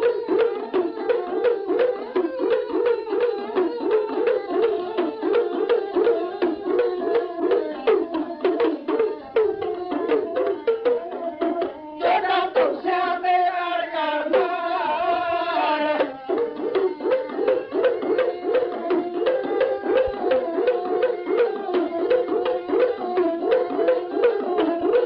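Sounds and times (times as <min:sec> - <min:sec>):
person singing held line: 0:00.0 - 0:25.0
rapid hand-drum strokes: 0:00.0 - 0:25.0.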